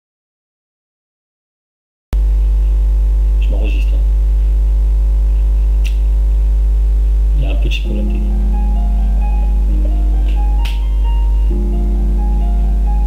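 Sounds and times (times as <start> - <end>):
electrical mains hum: 2.2 - 13.0.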